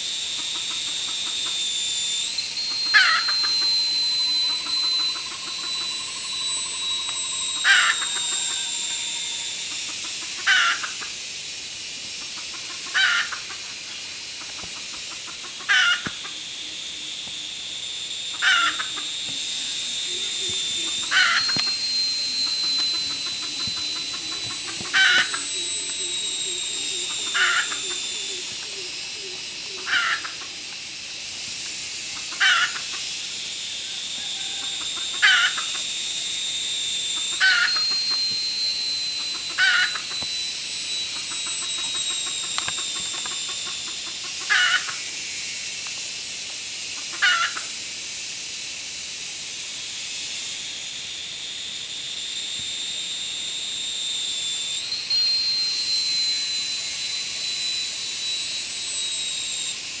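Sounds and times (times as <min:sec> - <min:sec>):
high-pitched hiss: 0:00.0 - 1:00.0.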